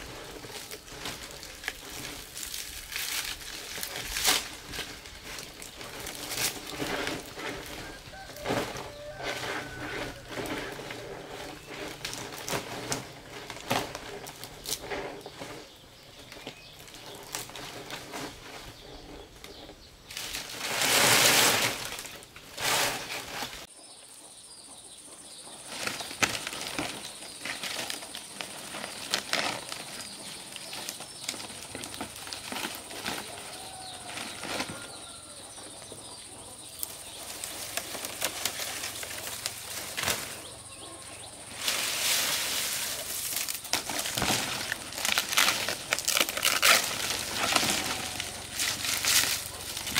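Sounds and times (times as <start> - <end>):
palm fronds rustling: 0.0 - 23.7, 25.6 - 49.9.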